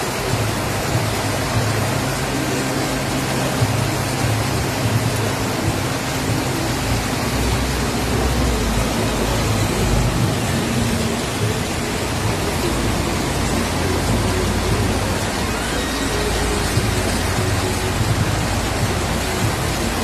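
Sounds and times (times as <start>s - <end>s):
heavy rain pouring: 0.0s - 20.0s
water rushing: 0.0s - 20.0s.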